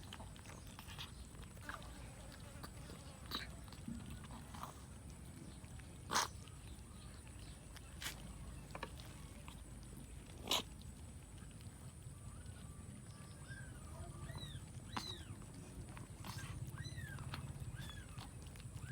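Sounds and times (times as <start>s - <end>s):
cats eating: 0.0s - 18.9s.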